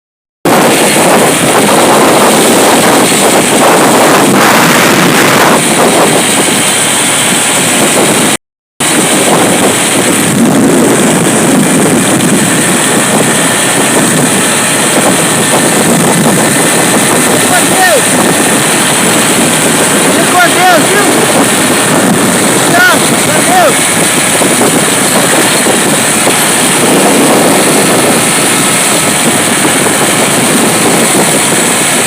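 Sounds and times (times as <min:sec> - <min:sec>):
vehicle engine: 0:00.5 - 0:32.0
wind rushing over microphone: 0:00.5 - 0:32.0
wet road noise: 0:00.7 - 0:32.0.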